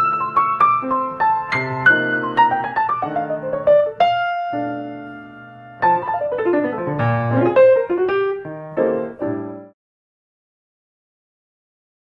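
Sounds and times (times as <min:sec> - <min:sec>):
solo piano music: 0:00.0 - 0:09.8.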